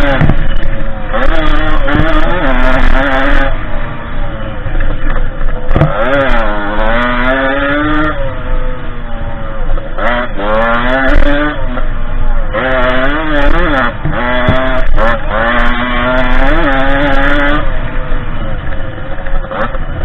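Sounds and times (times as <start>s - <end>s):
two-stroke dirt bike engine revving: 0.0s - 20.0s.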